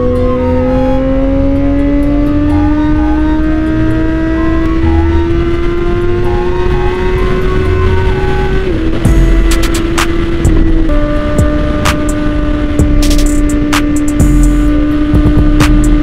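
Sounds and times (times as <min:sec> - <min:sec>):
motorcycle engine revving high: 0:00.0 - 0:16.0.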